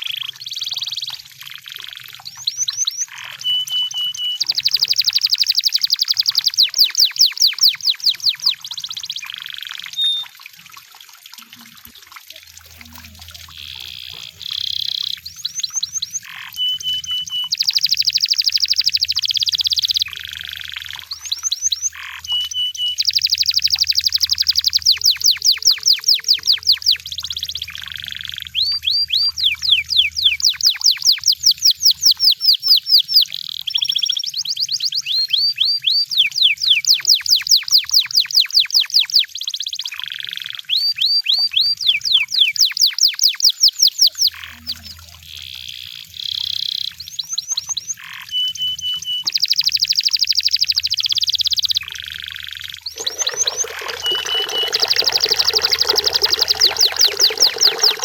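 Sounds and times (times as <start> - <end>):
canary singing trills: 0.0 - 10.4, 12.3 - 58.0.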